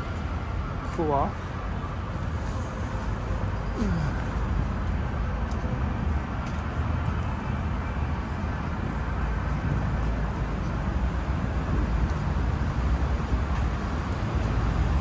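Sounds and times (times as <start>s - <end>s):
traffic rumble on bridge: 0.0s - 15.0s.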